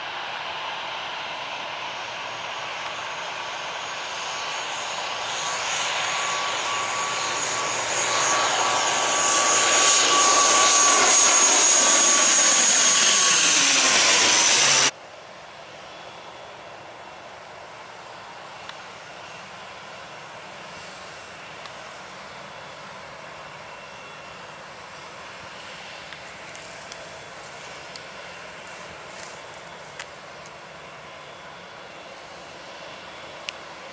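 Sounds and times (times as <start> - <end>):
jet airliner passing overhead: 0.0 - 33.9.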